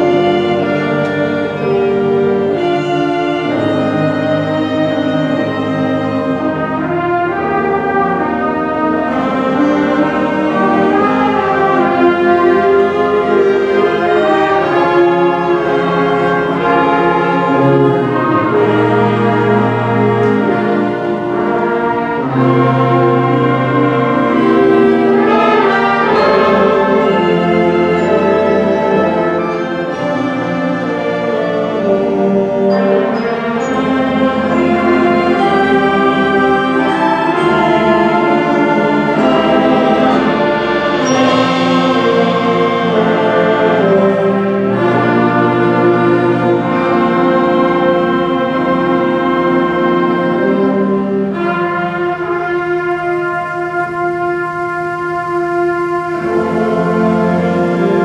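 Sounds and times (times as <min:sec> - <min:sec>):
concert band playing slow chords: 0:00.0 - 0:58.0.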